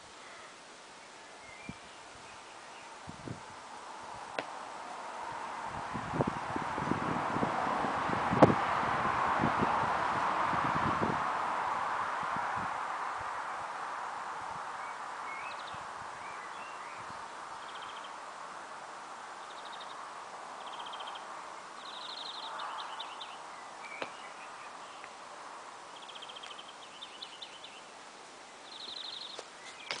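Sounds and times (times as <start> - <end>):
songbirds trilling and chirping: 0.0 - 6.8, 8.4 - 30.0
outdoor background noise: 0.0 - 30.0.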